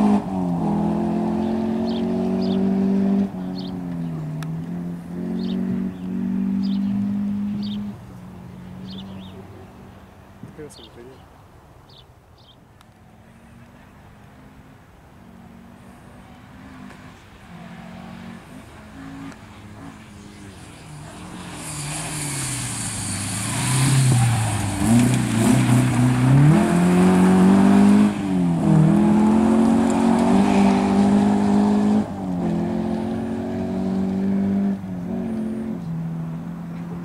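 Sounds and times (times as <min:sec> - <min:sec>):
rally car engine revving: 0:00.0 - 0:09.4, 0:15.2 - 0:37.0
tyre and road noise: 0:00.0 - 0:37.0.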